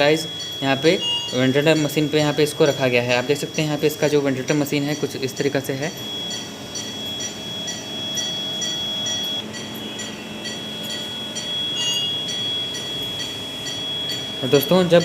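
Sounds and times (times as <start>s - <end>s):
short electronic beeps: 0.0s - 2.9s, 5.8s - 15.0s
high-pitched electronic tone: 0.0s - 15.0s.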